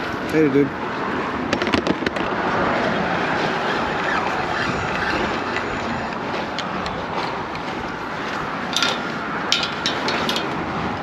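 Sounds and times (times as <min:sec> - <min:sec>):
highway traffic rushing: 0:00.0 - 0:11.0.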